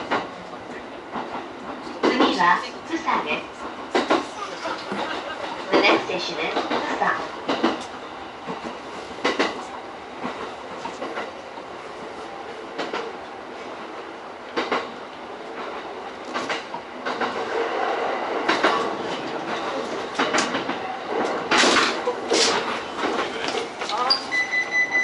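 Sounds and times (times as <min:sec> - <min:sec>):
train running rumble: 0:00.0 - 0:24.4.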